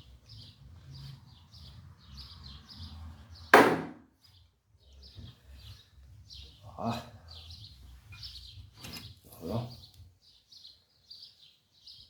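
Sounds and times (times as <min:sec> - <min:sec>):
small birds chirping: 0:00.0 - 0:03.5, 0:04.2 - 0:12.0.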